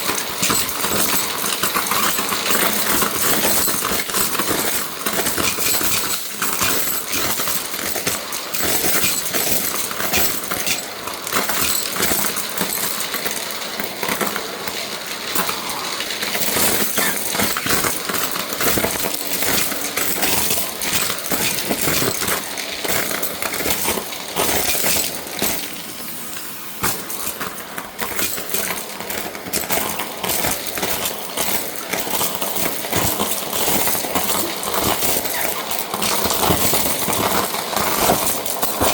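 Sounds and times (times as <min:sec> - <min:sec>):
debris rattling in vacuum: 0:00.0 - 0:38.9.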